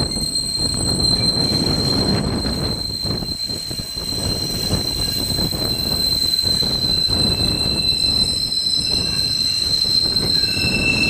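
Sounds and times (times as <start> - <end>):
low rumble of train cars: 0.0 - 11.0
train wheels squealing on rails: 0.0 - 11.0.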